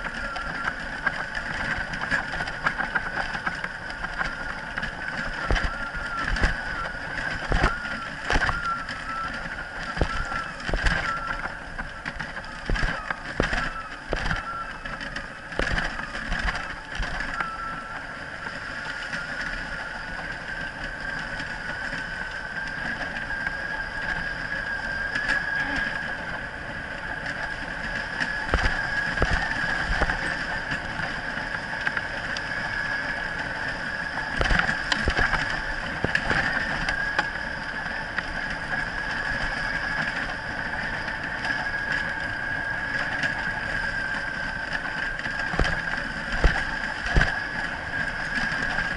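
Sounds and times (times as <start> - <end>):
wheels rolling over dirt trail: 0.0 - 48.9.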